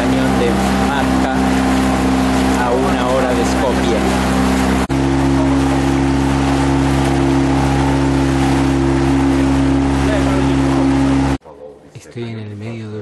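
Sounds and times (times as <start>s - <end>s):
boat engine humming: 0.0s - 11.4s.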